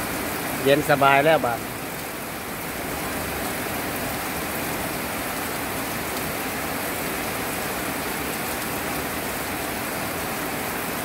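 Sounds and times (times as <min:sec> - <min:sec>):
rain falling on wet gravel: 0:00.0 - 0:11.0.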